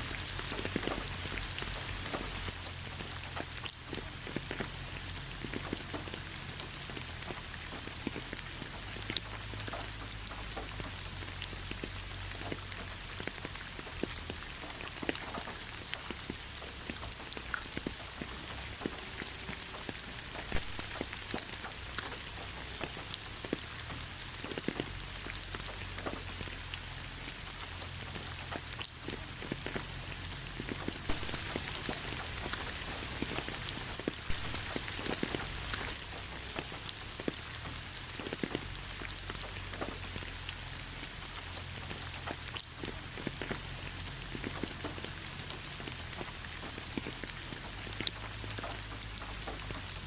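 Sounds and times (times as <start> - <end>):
rain falling: 0.0 - 50.0
raindrops ticking: 0.0 - 50.0.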